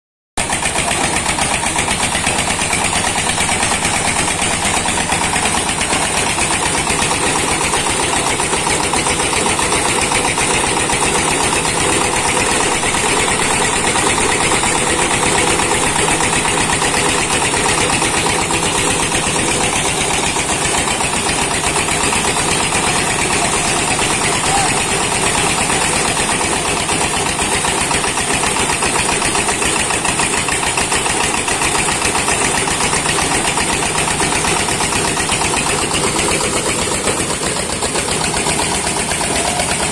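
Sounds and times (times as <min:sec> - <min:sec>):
diesel engine running threshing machine: 0:00.4 - 0:39.9.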